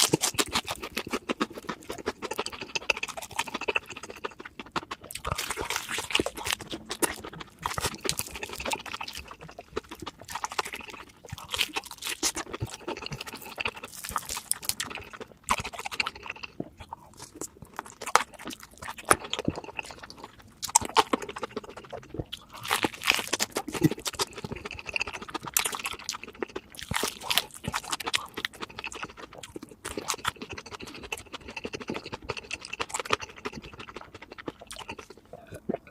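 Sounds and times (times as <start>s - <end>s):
chewing crispy fried food: 0.0s - 35.9s.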